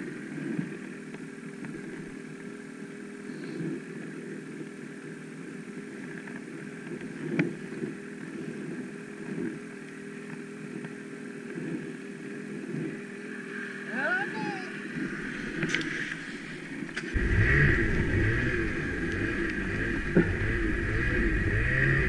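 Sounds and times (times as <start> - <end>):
snowmobile engines idling: 0.0 - 22.0.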